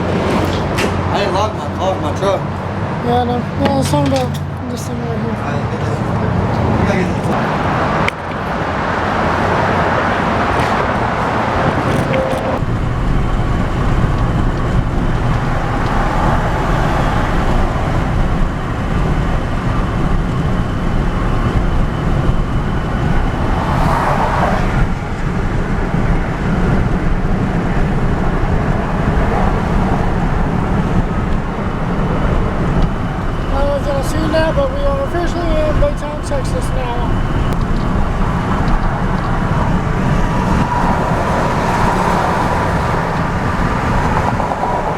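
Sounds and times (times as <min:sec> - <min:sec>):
truck cab road rumble: 0:00.0 - 0:44.9.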